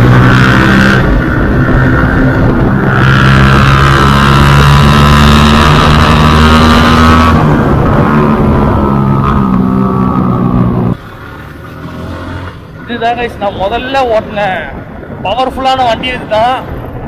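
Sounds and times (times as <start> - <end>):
wind rushing over microphone: 0.0 - 11.0, 11.8 - 17.0.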